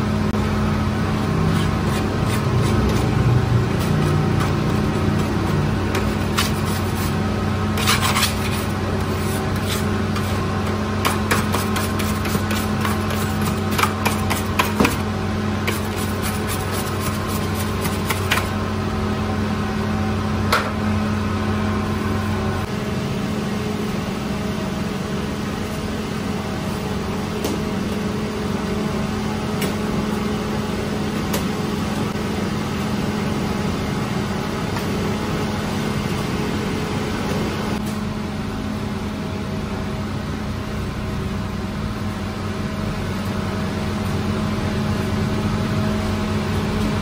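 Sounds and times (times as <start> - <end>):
bakery machinery hum: 0.0 - 47.0.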